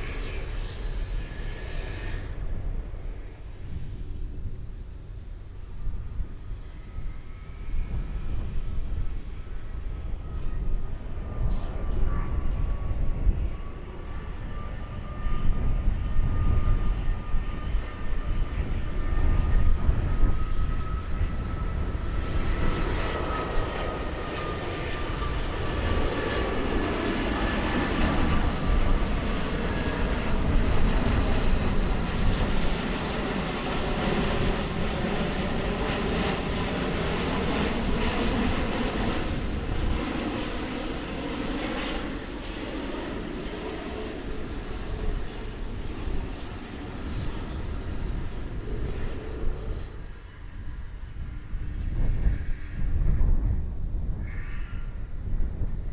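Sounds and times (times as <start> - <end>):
jet engine whine: 0.0 - 55.9
jet roar: 0.0 - 55.9.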